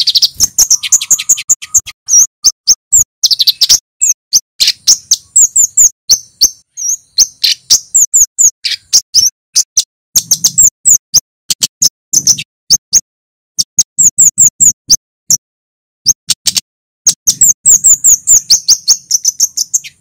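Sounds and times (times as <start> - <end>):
bird calling sharp chips: 0.0 - 15.4, 16.1 - 20.0.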